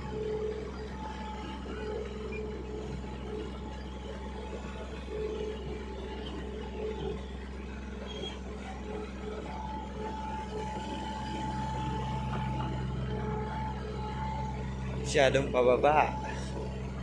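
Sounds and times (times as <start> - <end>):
thin whine: 0.0 - 17.0
vehicle engine running: 0.0 - 17.0.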